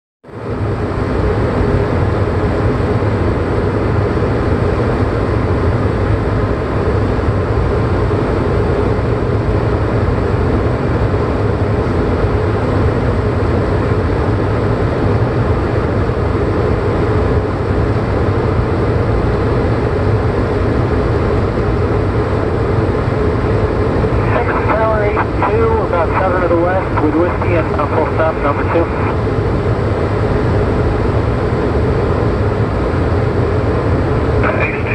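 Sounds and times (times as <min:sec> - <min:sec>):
propeller airplane drone: 0:00.2 - 0:34.9.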